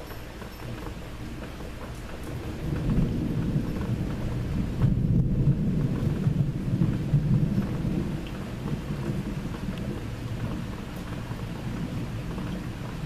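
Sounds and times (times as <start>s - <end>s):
faint rain patter: 0.0s - 13.0s
thunder rumbling: 0.8s - 13.0s.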